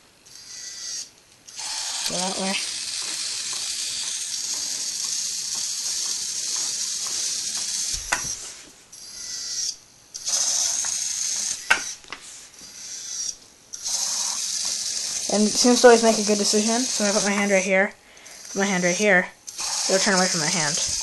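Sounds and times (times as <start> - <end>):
robot servos whirring: 0.3 - 21.0.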